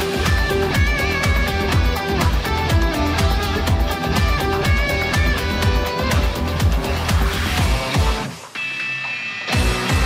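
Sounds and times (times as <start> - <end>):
music with steady drumbeat: 0.0 - 10.0.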